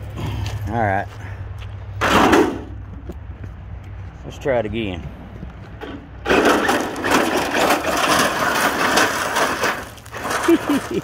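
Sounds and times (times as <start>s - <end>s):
gravel crunching under tyres: 0.0s - 11.0s.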